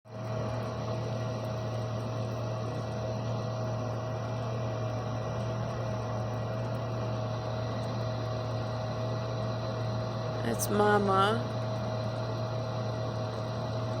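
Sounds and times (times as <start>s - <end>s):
mechanical hum: 0.1s - 14.0s.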